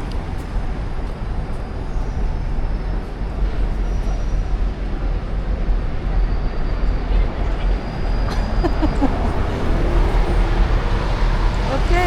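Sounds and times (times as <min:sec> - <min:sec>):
heavy uneven low rumble: 0:00.0 - 0:12.0
steady wash of city noise: 0:00.0 - 0:12.0.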